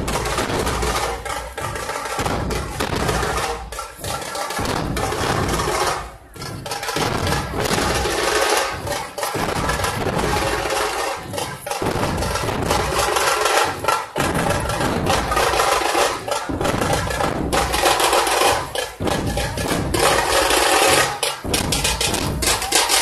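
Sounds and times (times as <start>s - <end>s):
barrel drums beaten together: 0.0s - 23.0s
sharp crackling drum strokes: 0.0s - 23.0s.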